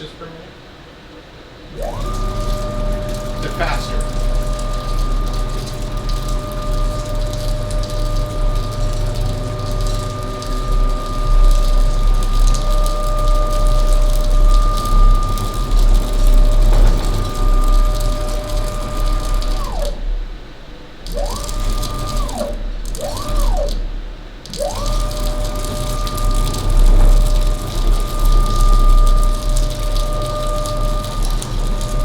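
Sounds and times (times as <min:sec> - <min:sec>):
low hum: 0:01.6 - 0:32.0
motors whining high pitch: 0:01.7 - 0:20.2, 0:21.1 - 0:23.8, 0:24.5 - 0:32.0.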